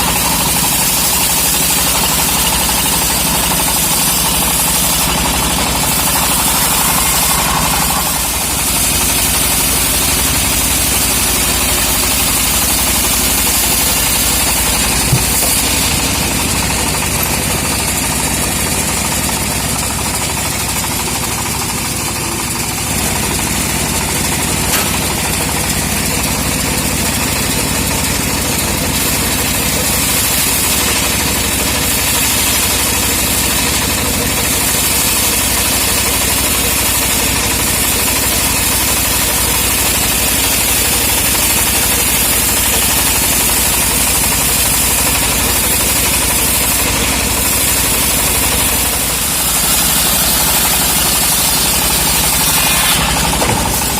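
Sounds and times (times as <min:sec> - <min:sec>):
engine-driven wood saw cutting: 0:00.0 - 0:53.9.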